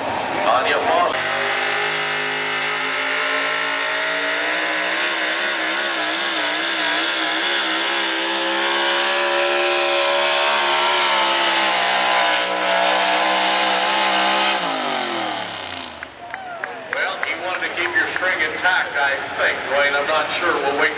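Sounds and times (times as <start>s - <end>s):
truck engine running flat out: 0.0s - 20.9s.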